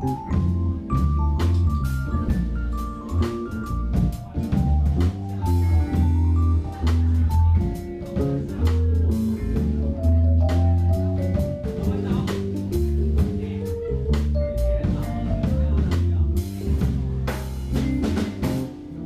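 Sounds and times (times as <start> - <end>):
jazz fusion band playing live: 0.0 - 19.0.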